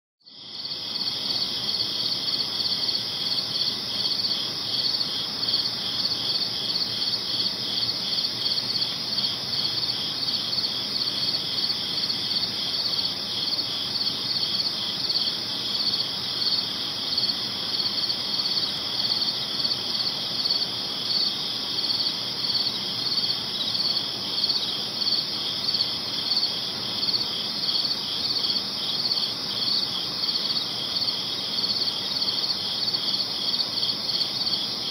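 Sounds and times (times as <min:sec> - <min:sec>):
crickets chirping: 0:00.3 - 0:34.9
faint night ambience hiss: 0:00.3 - 0:34.9.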